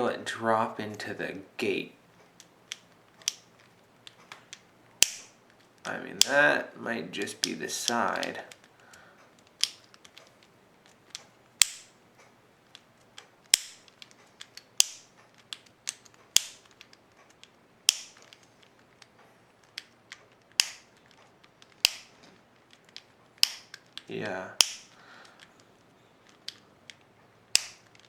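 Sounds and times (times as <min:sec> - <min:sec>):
combination lock clicking: 0:02.0 - 0:28.0.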